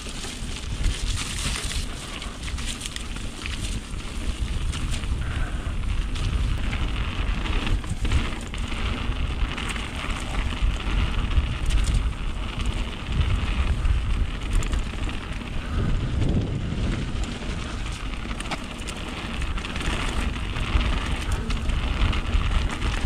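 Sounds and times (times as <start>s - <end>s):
bike rattling: 0.0s - 23.0s
tyres clicking on wet ground: 0.0s - 23.0s
wind buffeting microphone: 0.0s - 23.0s.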